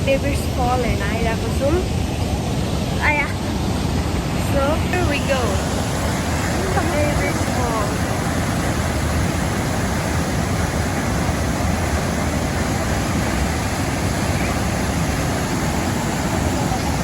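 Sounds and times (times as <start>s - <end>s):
waterfall rushing: 0.2s - 17.0s.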